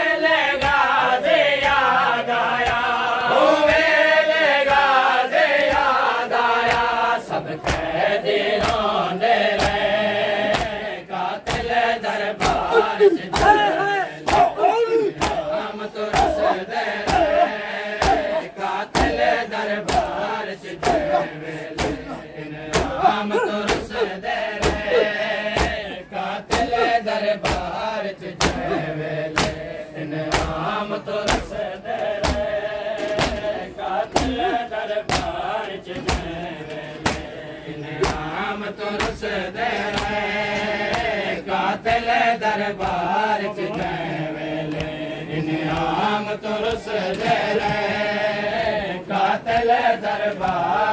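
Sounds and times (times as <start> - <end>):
men chanting a lament in unison: 0.0 - 50.9
crowd beating chests: 0.1 - 41.2.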